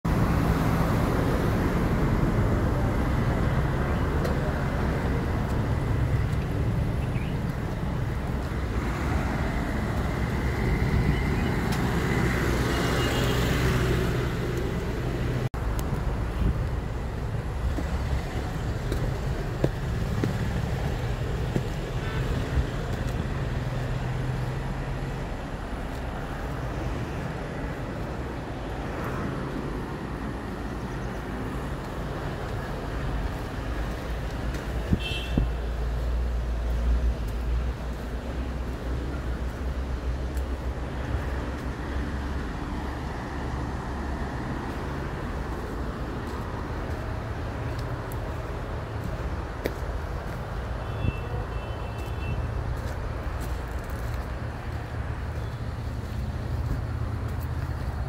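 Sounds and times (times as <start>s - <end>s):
traffic engine drone: 0.0s - 58.0s.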